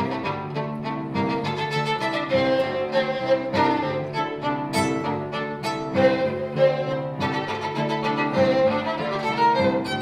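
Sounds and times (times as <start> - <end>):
sustained lower string part: 0.0 - 10.0
violin bowed: 0.0 - 10.0.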